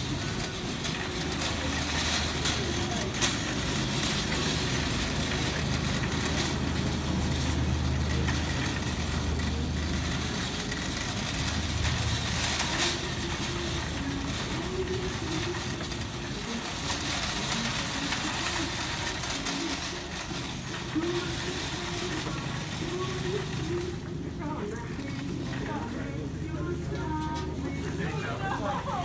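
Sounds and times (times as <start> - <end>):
shopping cart wheels rolling: 0.0 - 29.0.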